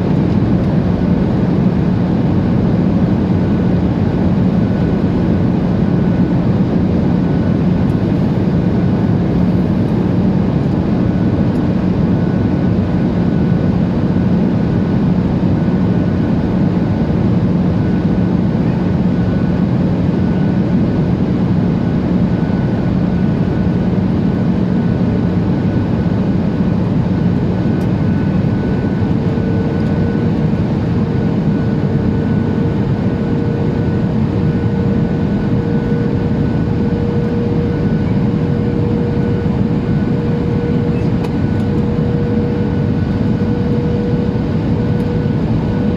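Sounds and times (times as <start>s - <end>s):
airplane cabin engine hum: 0.0s - 45.9s.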